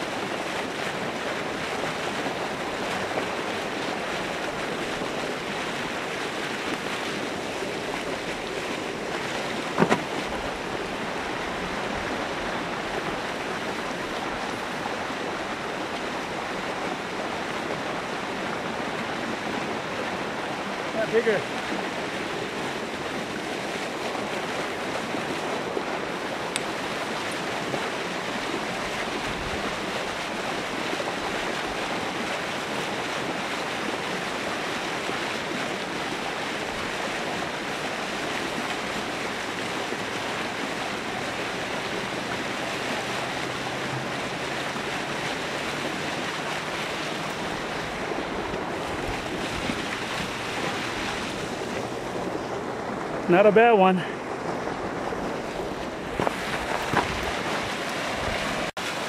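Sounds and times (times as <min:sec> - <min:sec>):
churning water: 0:00.0 - 0:59.0
wind: 0:00.0 - 0:59.0.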